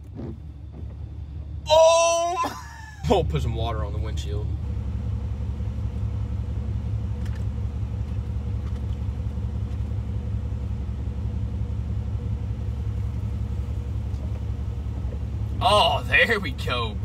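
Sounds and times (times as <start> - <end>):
pickup engine running: 0.0 - 17.0.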